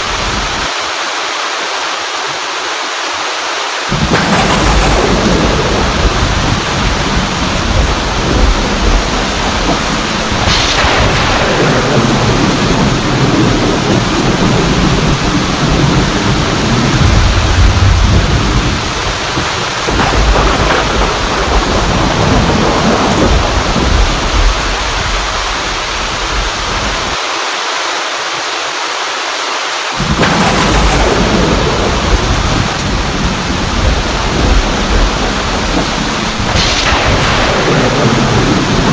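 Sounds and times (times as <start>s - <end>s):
heavy rain: 0.0s - 38.9s
thunder rumbling: 3.9s - 27.2s, 30.0s - 38.9s.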